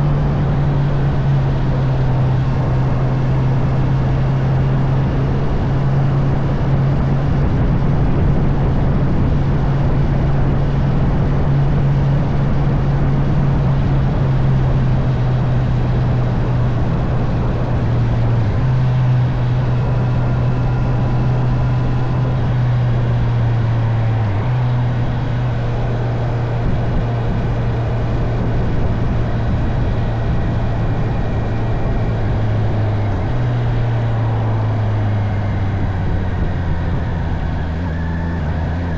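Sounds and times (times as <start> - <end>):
motorcycle engine running: 0.0 - 38.9
rushing wind and road noise: 0.0 - 38.9.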